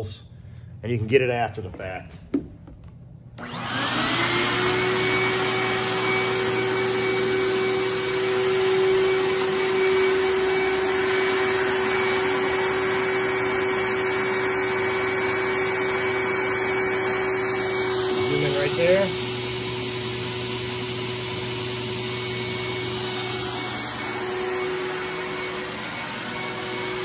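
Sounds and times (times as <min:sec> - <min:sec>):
blower motor whining: 0:03.4 - 0:27.0.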